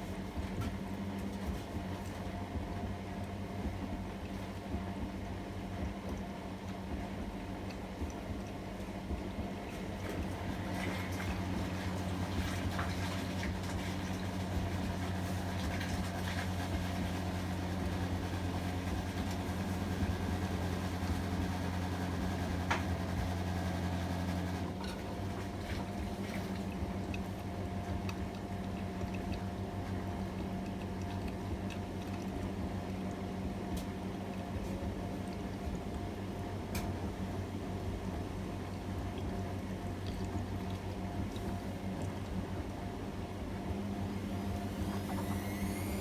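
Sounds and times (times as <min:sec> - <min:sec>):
low electric hum: 0:00.0 - 0:46.0
water running through washing machine: 0:00.0 - 0:46.0.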